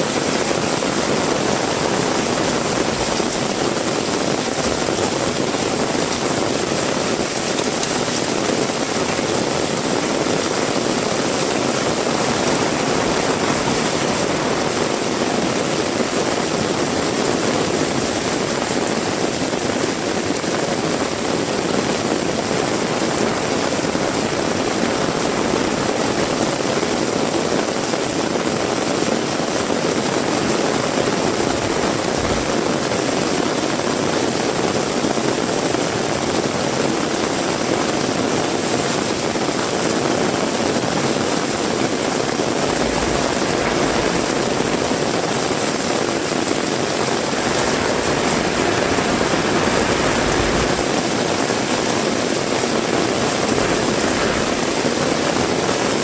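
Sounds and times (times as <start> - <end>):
low rumbles of wind: 0.0 - 36.3, 39.4 - 56.0
heavy rain pouring: 0.0 - 56.0.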